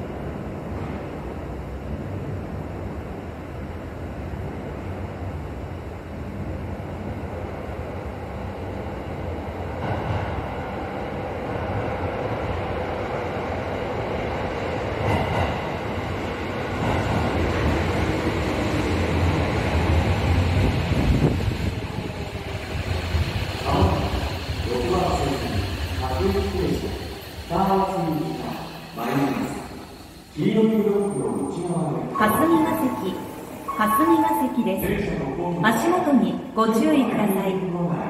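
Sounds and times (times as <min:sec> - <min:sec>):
subway train arriving: 0:00.0 - 0:38.0.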